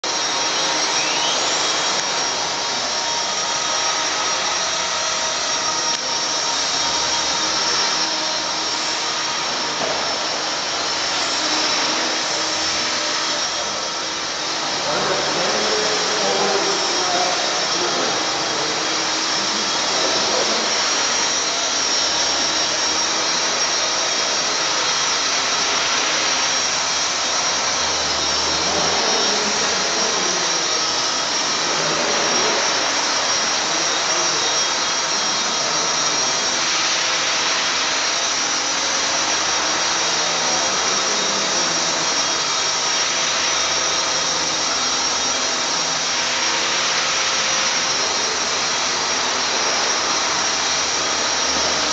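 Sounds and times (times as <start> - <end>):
rc helicopter motor whine: 0.0 - 51.9
rotor blades rushing: 0.0 - 51.9.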